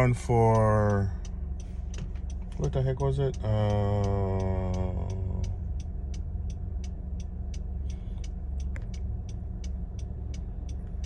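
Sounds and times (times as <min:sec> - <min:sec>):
car cabin rumble: 0:00.0 - 0:11.0
regular ticking: 0:00.0 - 0:11.0.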